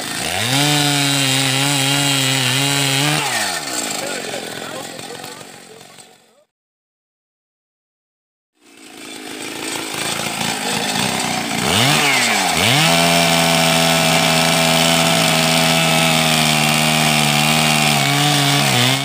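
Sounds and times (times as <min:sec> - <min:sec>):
chainsaw cutting wood: 0:00.0 - 0:06.5, 0:08.6 - 0:19.0.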